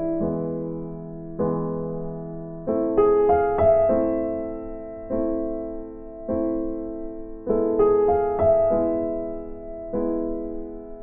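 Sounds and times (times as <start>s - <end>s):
slow electric piano chords: 0.0s - 11.0s.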